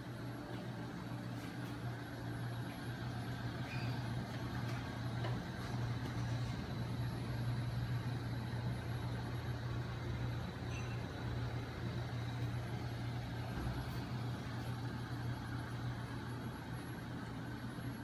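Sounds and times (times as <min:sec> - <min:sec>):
motor hum with mechanical whir: 0:00.0 - 0:18.0.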